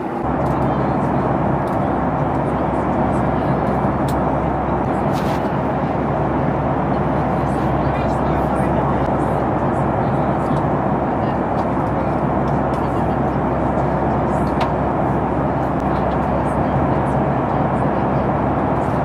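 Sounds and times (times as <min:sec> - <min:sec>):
airliner cabin noise: 0:00.0 - 0:19.0.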